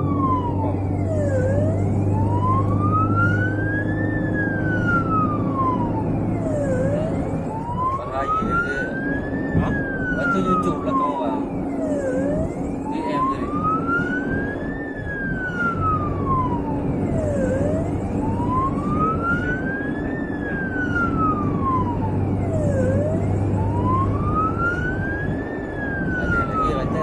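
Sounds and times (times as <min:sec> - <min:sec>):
ambulance wail siren: 0:00.0 - 0:27.0
engine and road hum: 0:00.0 - 0:27.0.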